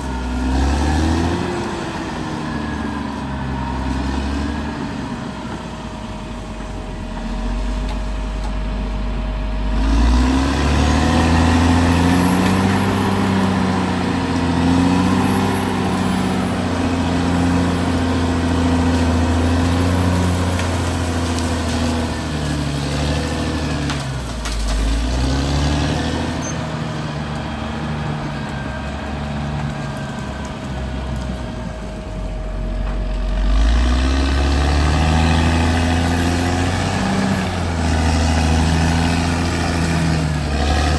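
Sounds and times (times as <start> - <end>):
bulldozer diesel engine revving: 0.0 - 40.9.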